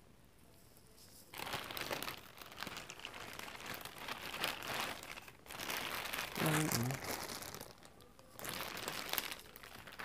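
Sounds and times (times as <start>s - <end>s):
plastic bag crinkling: 1.1s - 10.0s.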